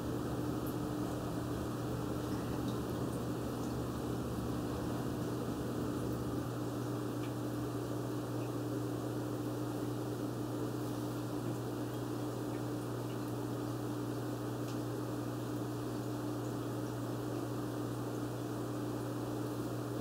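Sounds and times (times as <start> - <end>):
aquarium filter humming: 0.0 - 20.0.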